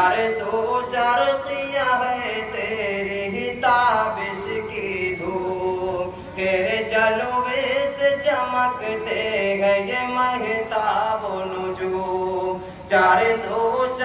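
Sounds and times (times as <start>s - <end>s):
men singing: 0.0s - 14.0s.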